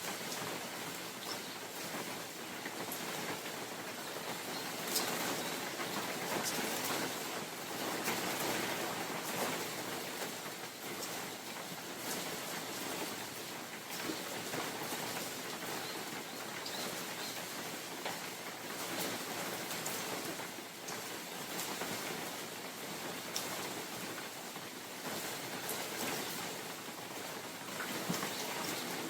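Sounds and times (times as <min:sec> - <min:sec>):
rain hissing in forest: 0:00.0 - 0:29.0
wind: 0:00.0 - 0:29.0.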